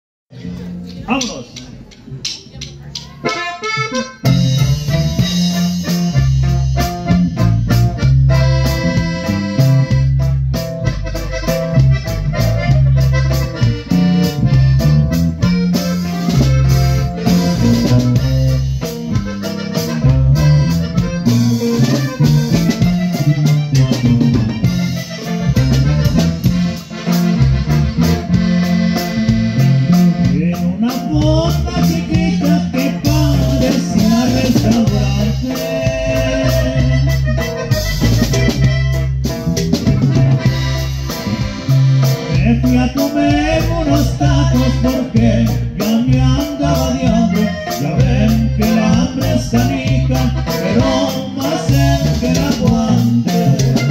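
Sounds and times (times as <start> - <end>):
live band playing instrumental music: 0.3 - 53.9
accordion melody: 2.2 - 53.9.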